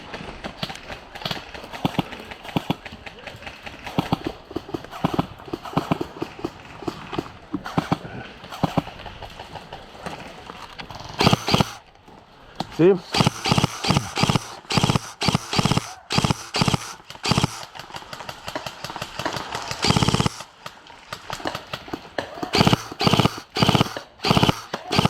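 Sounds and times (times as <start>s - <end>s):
airsoft rifle firing bursts: 0.6s - 3.0s, 3.6s - 9.6s, 11.0s - 11.8s, 12.8s - 25.0s.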